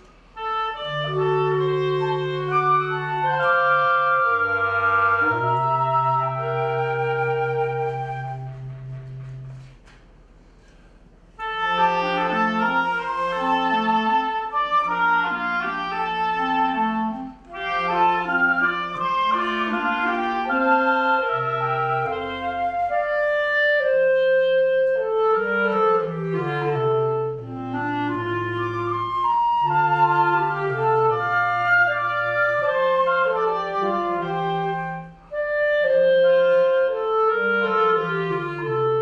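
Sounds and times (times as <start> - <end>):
saxophones and bass clarinet playing: 0.0 - 10.0, 11.3 - 39.0.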